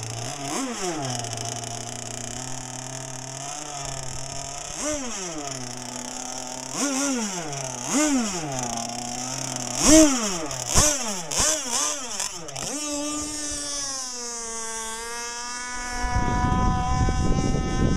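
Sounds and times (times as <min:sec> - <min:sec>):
small two-stroke engine revving: 0:00.0 - 0:17.9.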